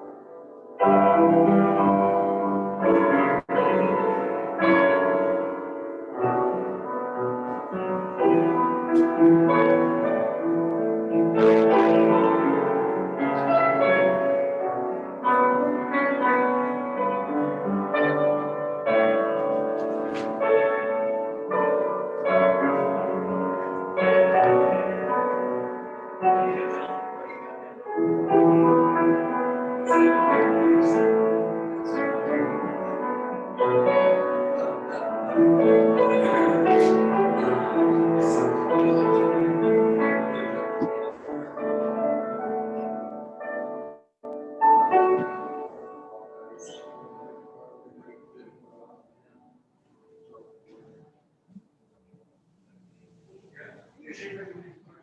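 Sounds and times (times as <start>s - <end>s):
slow piano chords: 0.0s - 51.6s.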